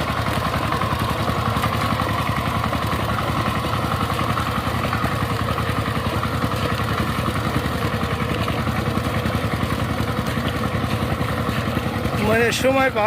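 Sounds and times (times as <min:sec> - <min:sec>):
power tiller diesel engine: 0:00.0 - 0:13.0.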